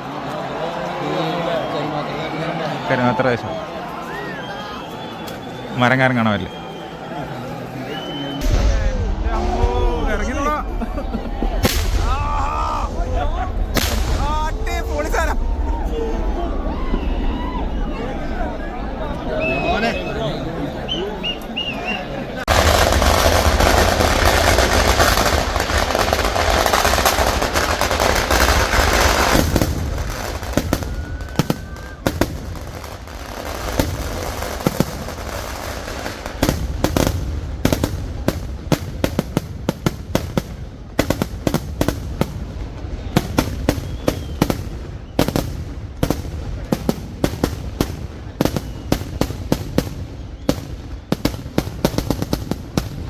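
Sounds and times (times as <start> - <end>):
fireworks explosions: 6.5 - 53.0
fireworks bangs and crackles: 8.3 - 20.2, 22.4 - 53.0.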